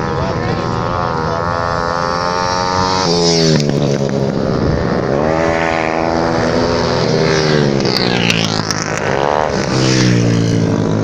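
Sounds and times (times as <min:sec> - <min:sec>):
racing motorcycle engines: 0:00.0 - 0:11.0.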